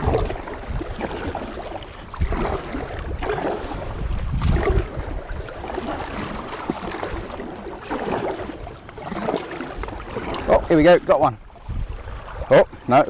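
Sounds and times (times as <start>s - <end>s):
paddle splashing in water: 0.0s - 13.0s
wind buffeting microphone: 0.0s - 13.0s.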